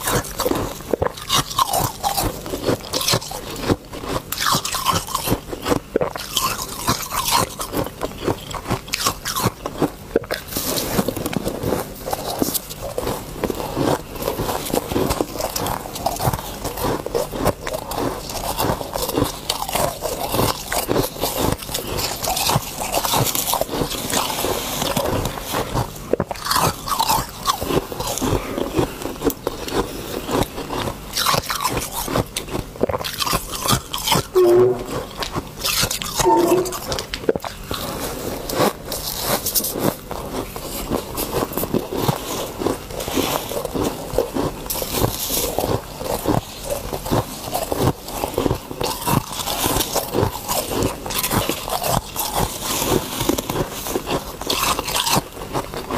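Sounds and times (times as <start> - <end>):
ice crunching when chewed: 0.0 - 55.9.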